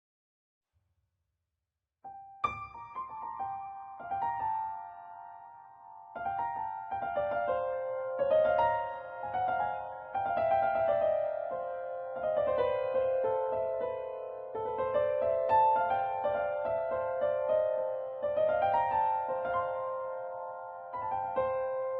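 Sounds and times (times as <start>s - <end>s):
soft piano music: 2.1s - 21.9s.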